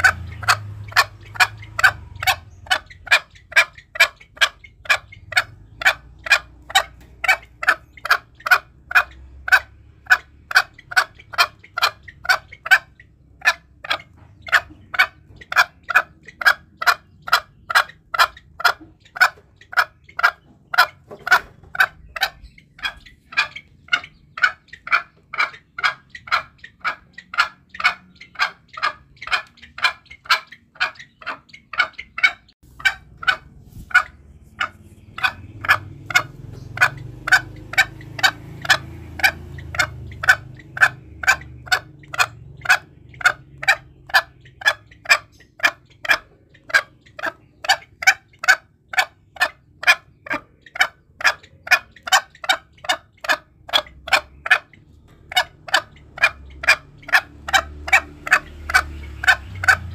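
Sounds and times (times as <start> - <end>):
junglefowl clucking: 0.0 - 59.9.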